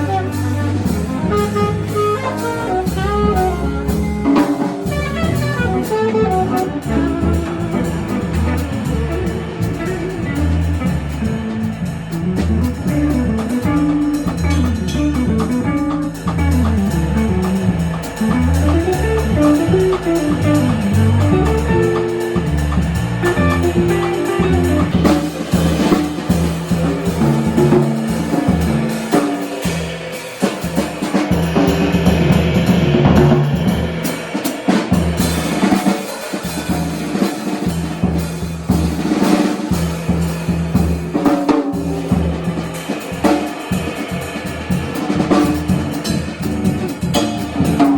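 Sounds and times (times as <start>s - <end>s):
bass line: 0.0s - 29.9s, 31.3s - 34.2s, 39.9s - 47.9s
drum kit and cymbals: 0.0s - 47.9s.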